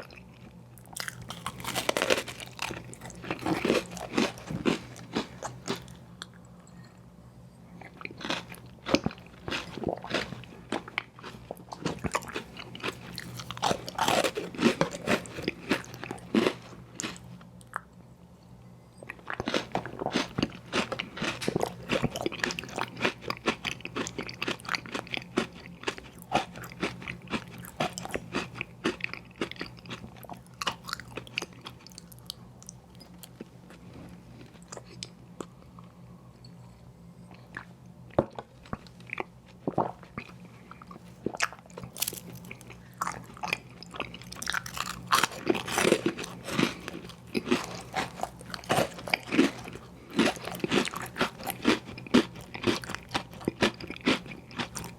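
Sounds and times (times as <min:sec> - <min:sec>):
crunchy chewing: 0:00.0 - 0:06.9, 0:07.7 - 0:17.9, 0:19.0 - 0:36.6, 0:37.3 - 0:54.9
faint low hum: 0:00.0 - 0:54.9.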